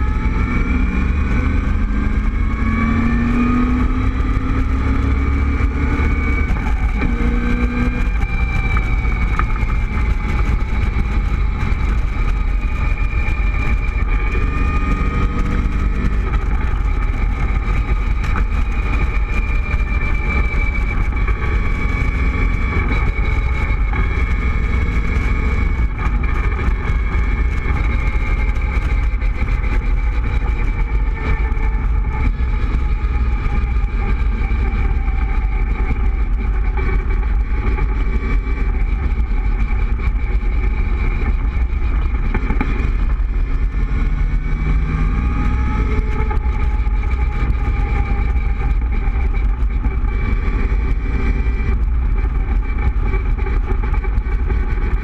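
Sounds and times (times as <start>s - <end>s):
car engine droning: 0.0s - 55.0s
road noise: 0.0s - 55.0s
wind rumble on microphone: 0.0s - 55.0s.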